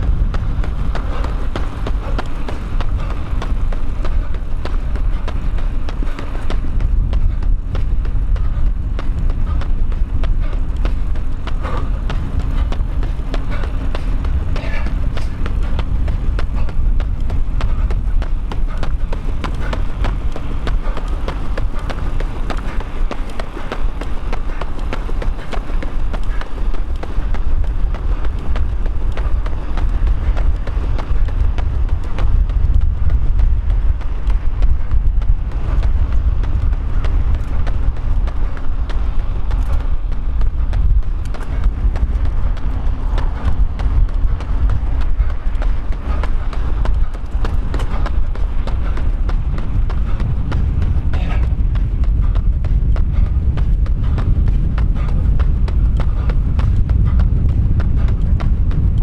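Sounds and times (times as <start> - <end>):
running footsteps: 0.0 - 59.0
wind rumble on microphone: 0.0 - 59.0.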